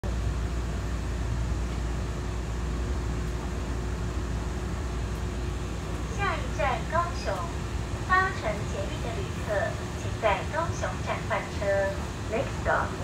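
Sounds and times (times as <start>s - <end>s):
faint steady hum: 0.0s - 13.0s
train interior rumble: 0.0s - 13.0s.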